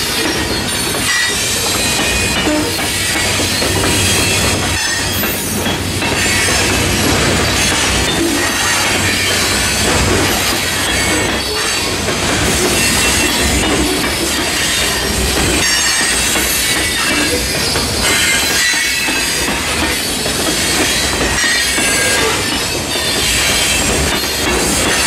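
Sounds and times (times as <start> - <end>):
train wheels clattering on rail: 0.0 - 25.0.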